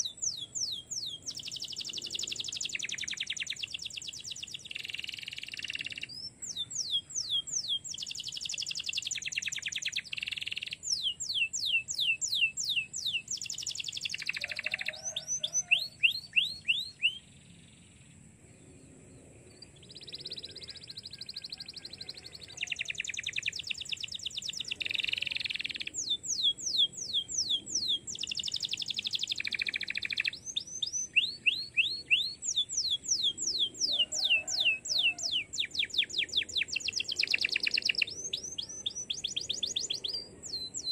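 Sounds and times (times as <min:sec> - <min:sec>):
canary singing: 0:00.0 - 0:17.4, 0:19.8 - 0:40.9.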